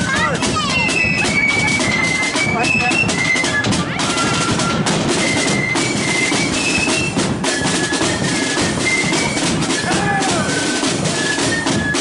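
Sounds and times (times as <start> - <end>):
flute melody: 0.0 - 12.0
snare drums rattling: 0.0 - 12.0.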